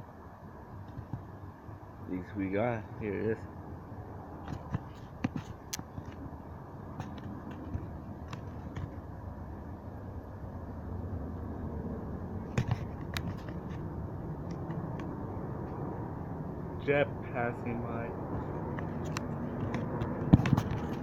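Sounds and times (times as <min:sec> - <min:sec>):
jet aircraft rumble: 0:00.8 - 0:21.0.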